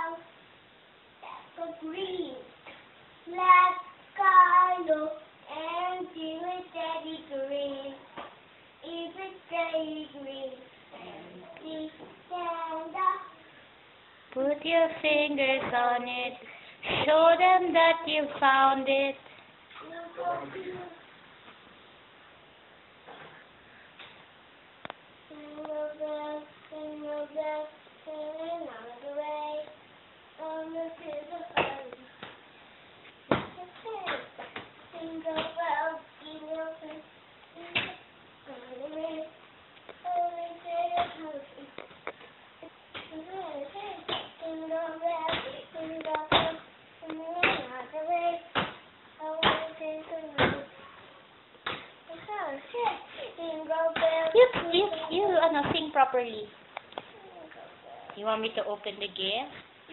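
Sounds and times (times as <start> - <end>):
girl singing unaccompanied: 0.0 - 0.4, 1.2 - 13.7, 14.3 - 21.1, 25.2 - 32.3, 33.3 - 41.9, 42.6 - 51.0, 51.6 - 57.9.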